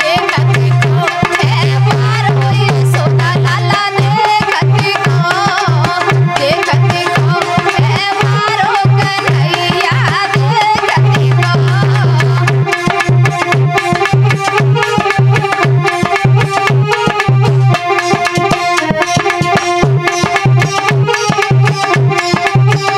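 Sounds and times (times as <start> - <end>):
hand drum fast beat: 0.0 - 22.9.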